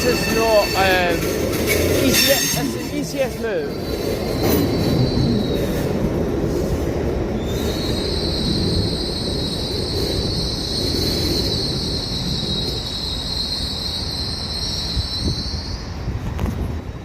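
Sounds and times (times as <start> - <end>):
low rumble of train: 0.0 - 17.0
train wheels squealing: 0.0 - 17.0.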